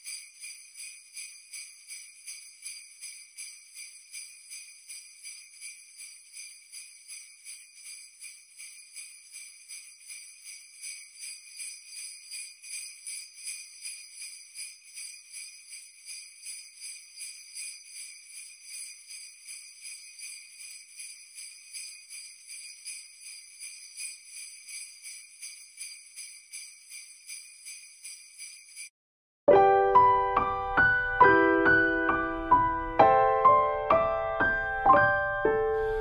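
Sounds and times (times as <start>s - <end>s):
jingle bells shaken: 0.0s - 28.9s.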